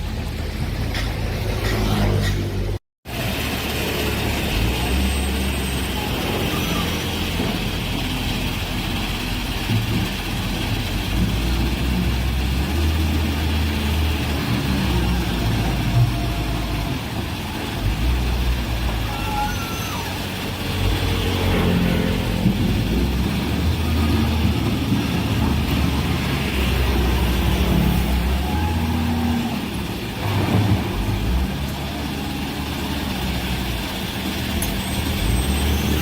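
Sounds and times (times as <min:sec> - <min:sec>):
heavy diesel engines rumbling: 0:00.0 - 0:36.0.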